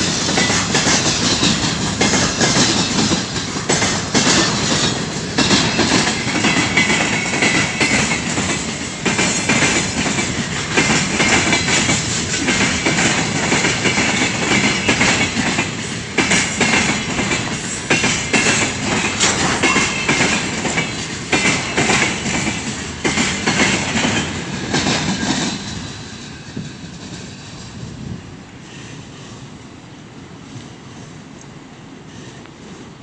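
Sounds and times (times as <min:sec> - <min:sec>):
wheels clattering over rail joints: 0:00.0 - 0:28.0
freight train wagons rolling past: 0:00.0 - 0:33.0.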